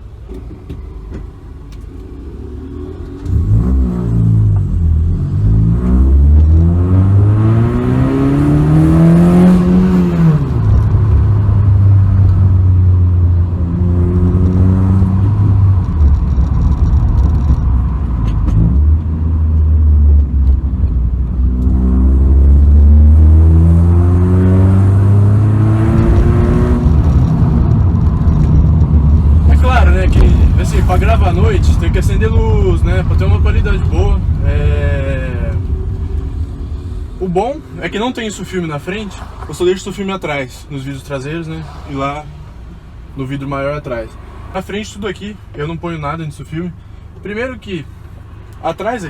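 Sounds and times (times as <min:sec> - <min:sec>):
car engine accelerating: 0:00.0 - 0:46.4.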